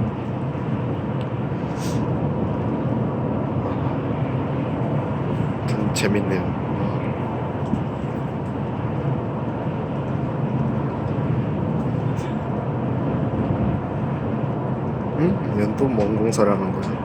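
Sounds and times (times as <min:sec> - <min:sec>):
bus engine drone: 0:00.0 - 0:17.0
road noise: 0:00.0 - 0:17.0.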